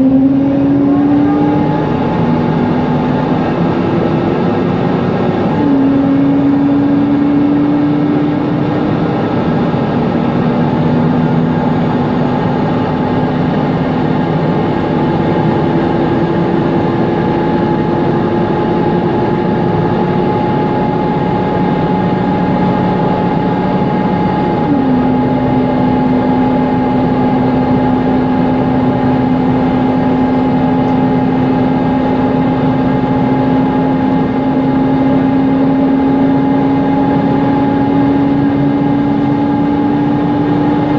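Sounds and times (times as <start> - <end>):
bus engine running: 0.0 - 40.9
cooling fan whine: 0.0 - 40.9.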